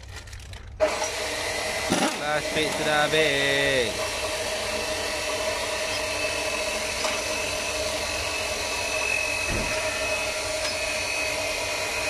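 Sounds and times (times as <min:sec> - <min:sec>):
machine whir with hiss: 0:00.8 - 0:12.0.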